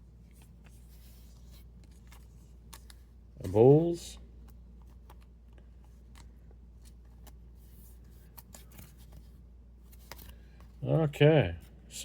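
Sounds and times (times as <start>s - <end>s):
cards ticking and sliding: 0.2s - 10.8s.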